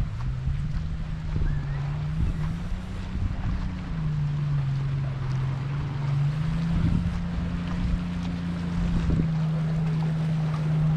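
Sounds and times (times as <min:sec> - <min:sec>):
steady engine hum: 0:00.0 - 0:10.9
wind noise on microphone: 0:00.0 - 0:10.9.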